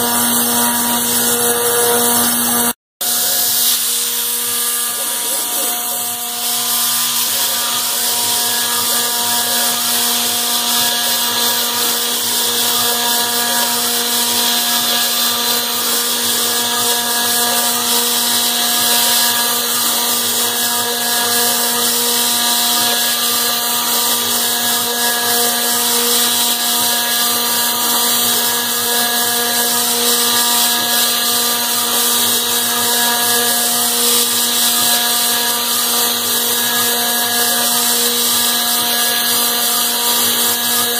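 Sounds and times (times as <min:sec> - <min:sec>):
cutter milling metal hiss: 0:00.0 - 0:40.9
router spindle whining: 0:00.0 - 0:40.9.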